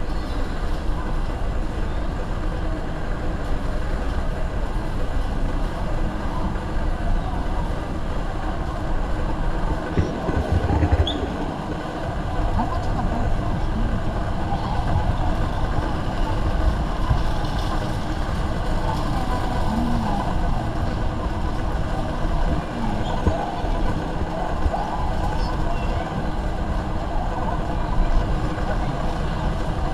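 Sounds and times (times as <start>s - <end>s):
murmur of voices: 0.0s - 29.9s.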